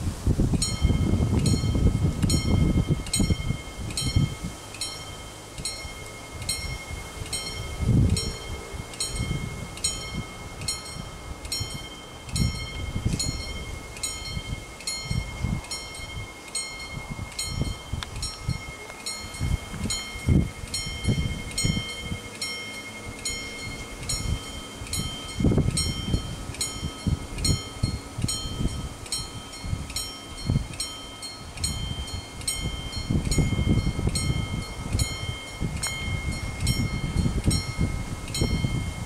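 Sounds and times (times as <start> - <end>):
wind rumble on microphone: 0.0 - 39.0
level crossing bell ringing: 0.6 - 39.0
steady warning tone: 0.6 - 39.0.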